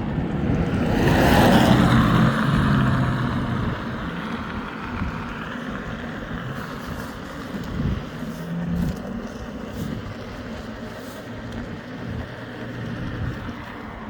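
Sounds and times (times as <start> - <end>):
electric unicycle rolling: 0.0 - 14.0
wind noise: 0.0 - 14.0.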